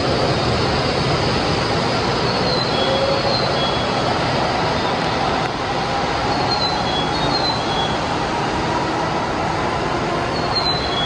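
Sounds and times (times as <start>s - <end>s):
train rushing: 0.0s - 11.0s.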